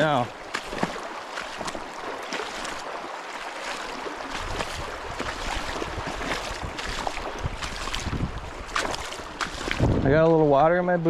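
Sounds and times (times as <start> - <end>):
river current rushing: 0.0 - 10.0
wading water splashing: 0.0 - 10.3.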